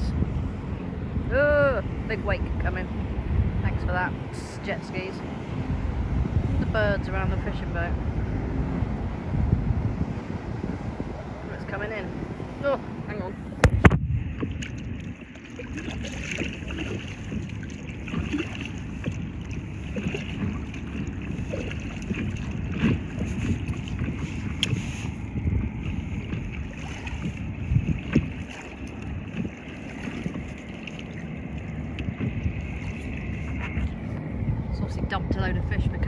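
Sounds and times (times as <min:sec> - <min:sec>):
small waves slapping and lapping: 0:00.0 - 0:36.0
wind buffeting microphone: 0:00.0 - 0:36.0.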